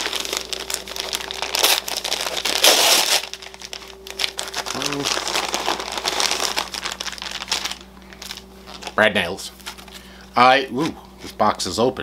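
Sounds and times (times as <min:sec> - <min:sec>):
paper envelope rustling: 0:00.0 - 0:11.4.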